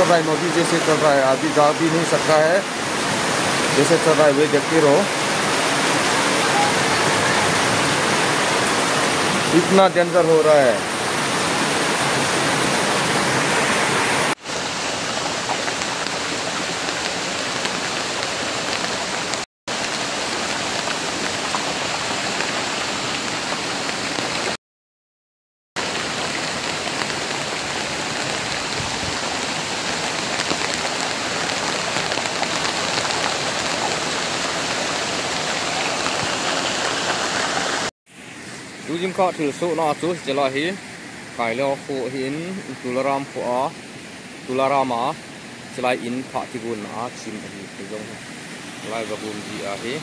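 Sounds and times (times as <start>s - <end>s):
floodwater rushing: 0.0s - 24.6s, 25.8s - 37.9s, 38.6s - 50.0s.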